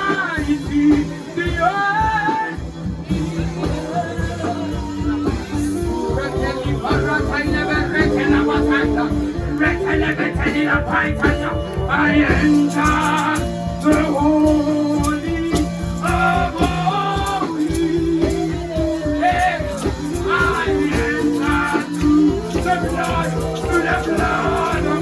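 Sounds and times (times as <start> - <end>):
gospel worship music: 0.0 - 25.0.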